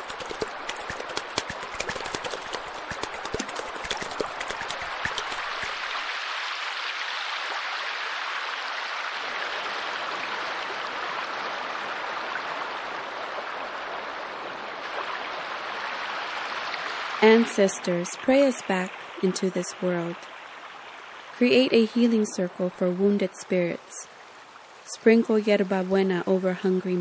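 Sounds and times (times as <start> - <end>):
running water: 0.0 - 27.0.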